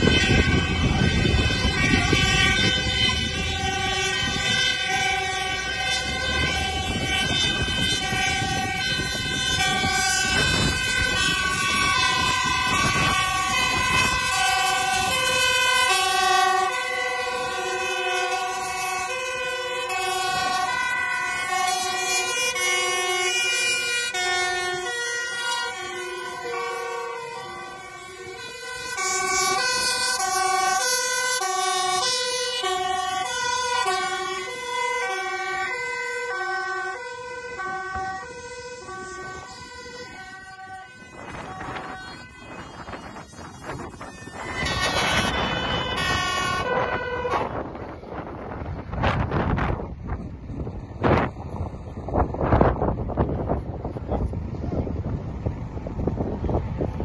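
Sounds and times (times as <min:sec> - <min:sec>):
truck engines rumbling: 0:00.0 - 0:57.0
two-tone sirens: 0:00.0 - 0:57.0.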